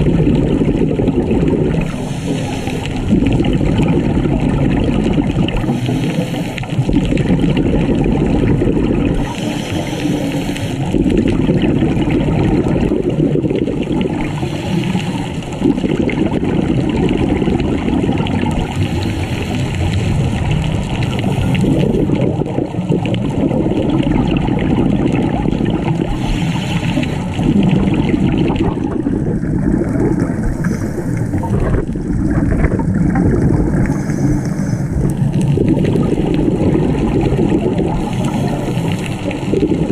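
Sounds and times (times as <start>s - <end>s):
scuba exhalation bubbles: 0.0s - 39.9s
water rushing underwater: 0.0s - 39.9s.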